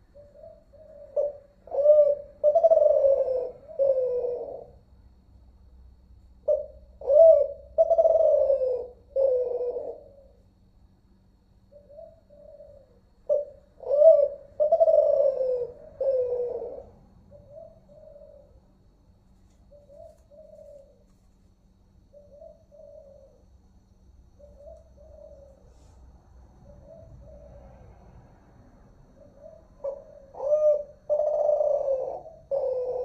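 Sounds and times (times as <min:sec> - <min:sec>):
dove cooing: 0:00.0 - 0:04.8, 0:06.4 - 0:10.7, 0:11.6 - 0:18.8, 0:19.6 - 0:21.3, 0:22.0 - 0:28.2, 0:29.0 - 0:33.0.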